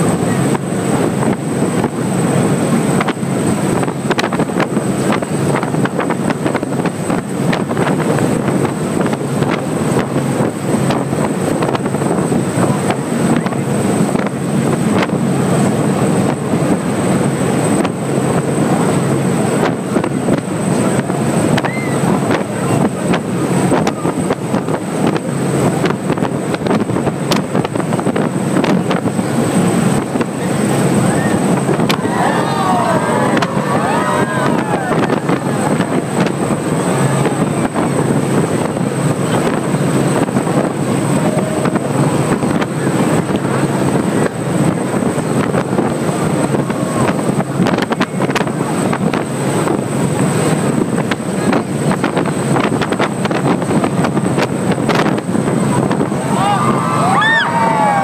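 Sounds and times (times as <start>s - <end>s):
speedboat engine drone: 0.0s - 58.0s
water rushing off hull: 0.0s - 58.0s
wind buffeting microphone: 0.0s - 58.0s.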